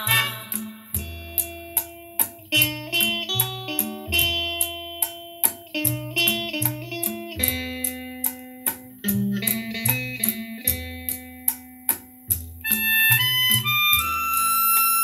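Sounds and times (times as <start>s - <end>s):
instrumental music with bass and beat: 0.0s - 15.0s
lead melody with long held notes: 0.0s - 15.0s.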